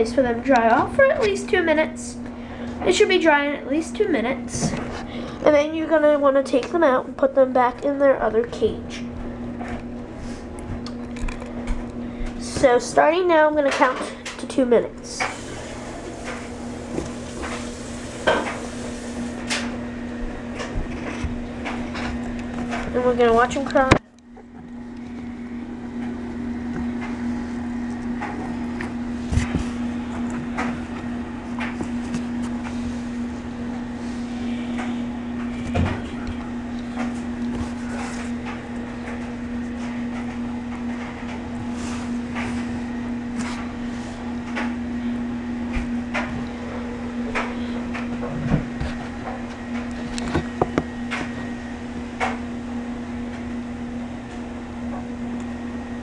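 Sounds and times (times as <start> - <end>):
appliance humming: 0.0 - 56.0.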